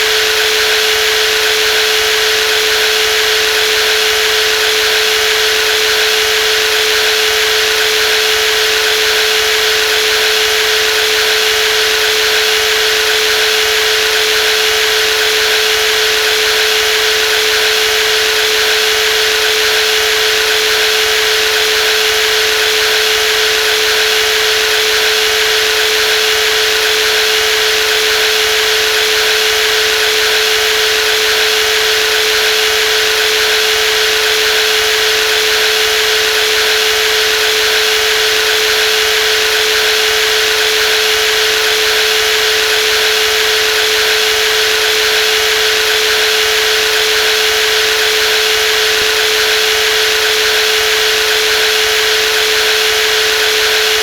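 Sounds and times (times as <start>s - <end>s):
jigsaw motor whining: 0.0s - 54.0s.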